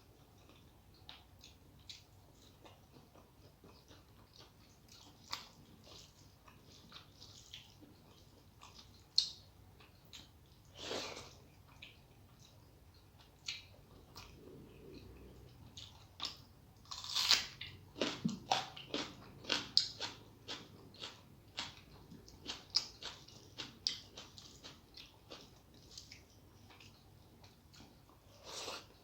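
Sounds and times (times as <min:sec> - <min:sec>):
person chewing food: 0:00.1 - 0:29.0.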